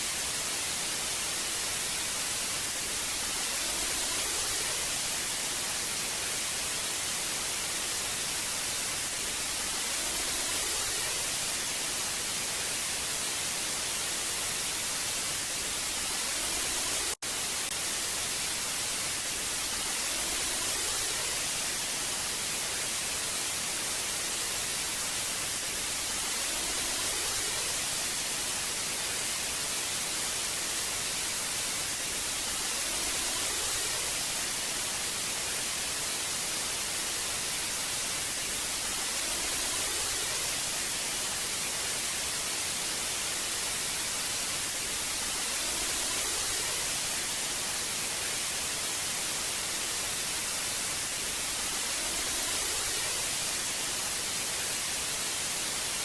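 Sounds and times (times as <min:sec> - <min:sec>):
tv static hiss: 0:00.0 - 0:56.0.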